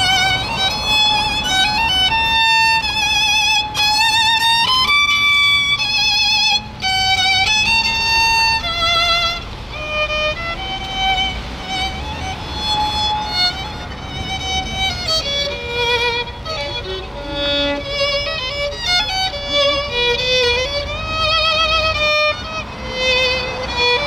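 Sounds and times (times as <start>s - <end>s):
low street rumble: 0.0s - 24.0s
solo violin melody: 0.0s - 24.0s.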